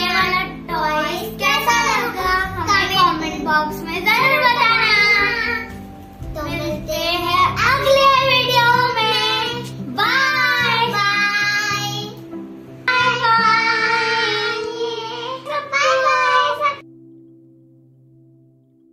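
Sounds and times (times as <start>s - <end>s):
child singing: 0.0s - 12.2s, 12.9s - 16.8s
backing music: 0.0s - 18.9s.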